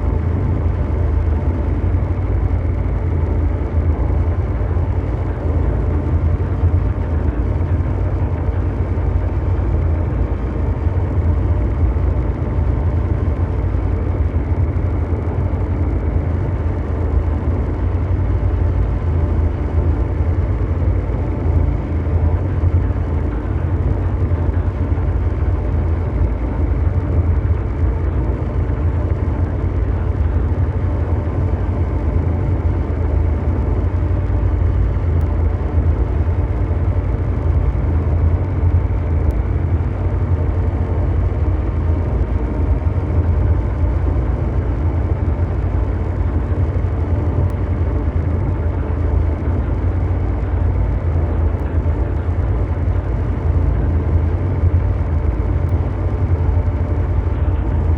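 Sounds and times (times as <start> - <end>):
deep steady drone hum: 0.0 - 57.9.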